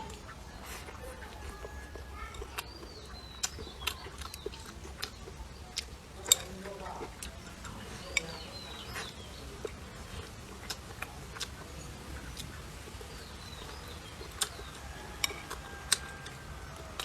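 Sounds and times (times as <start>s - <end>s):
eating clicks and crunches: 0.0s - 17.0s.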